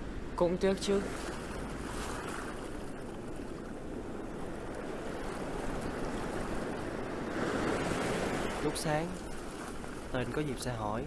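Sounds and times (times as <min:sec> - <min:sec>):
low rushing outdoor ambience: 0:00.0 - 0:11.0.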